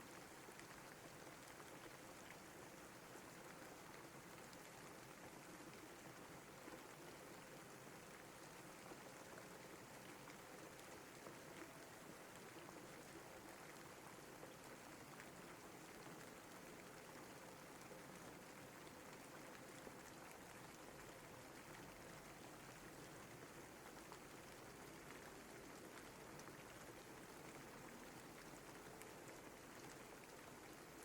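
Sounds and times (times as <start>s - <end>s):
steady quiet rain: 0.0s - 31.0s.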